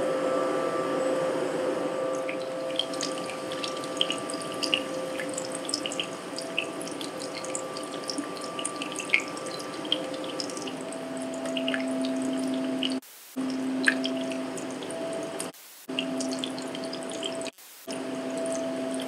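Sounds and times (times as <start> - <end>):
short dripping clicks: 2.2 - 19.0.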